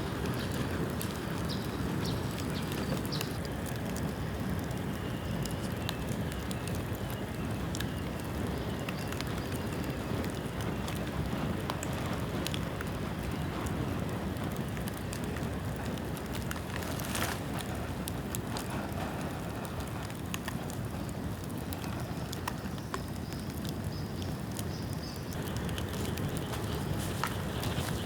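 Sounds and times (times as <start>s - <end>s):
bonfire crackling: 0.0s - 28.0s.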